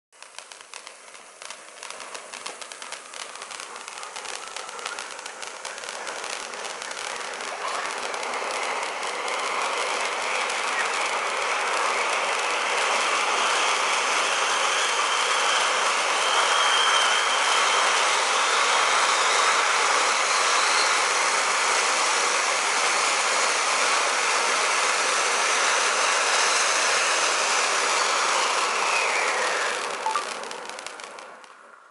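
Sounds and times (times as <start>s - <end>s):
fountain firework hissing: 0.2s - 31.9s.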